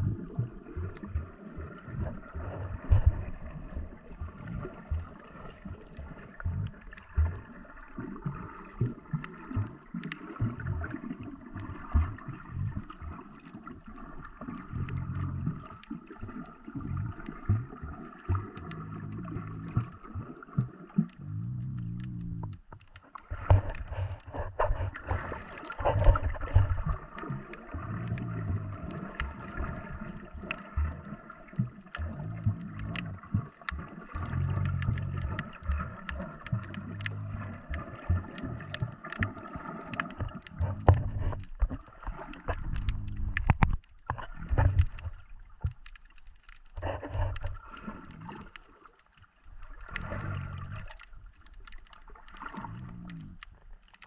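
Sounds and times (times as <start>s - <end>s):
muffled water sloshing: 0.0s - 54.0s.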